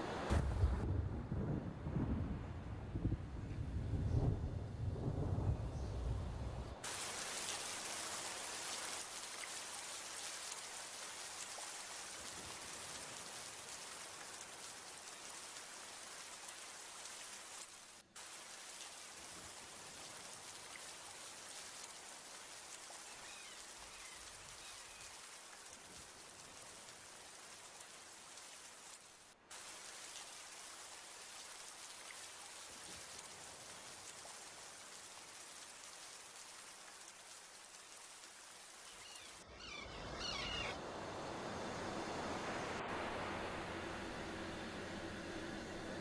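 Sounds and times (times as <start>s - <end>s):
rain hissing: 0.0s - 2.2s, 3.0s - 46.0s.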